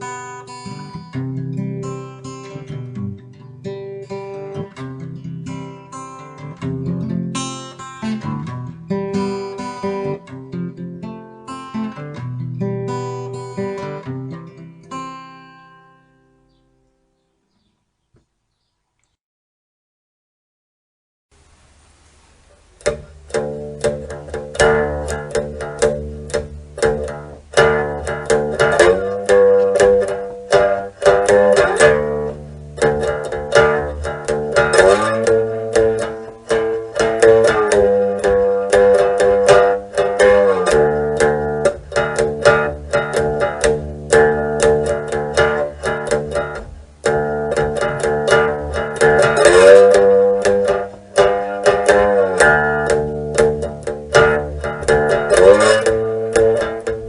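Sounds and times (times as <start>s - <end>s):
guitar-like plucked strings: 0.0s - 16.6s, 22.4s - 57.0s.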